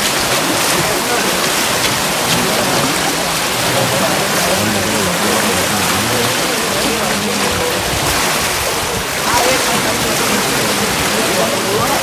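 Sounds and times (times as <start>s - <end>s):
water rushing under sluice gate: 0.0s - 12.0s
men talking: 0.3s - 12.0s.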